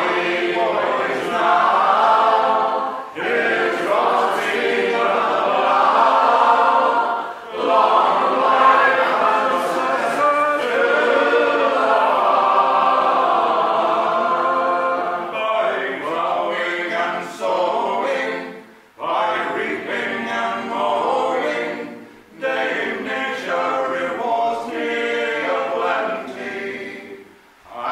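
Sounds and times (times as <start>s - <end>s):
men singing in harmony: 0.0s - 27.9s.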